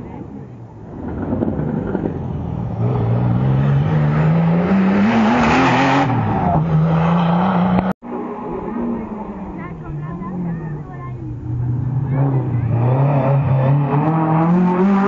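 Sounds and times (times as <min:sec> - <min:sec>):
rally car engine accelerating: 0:00.1 - 0:15.0.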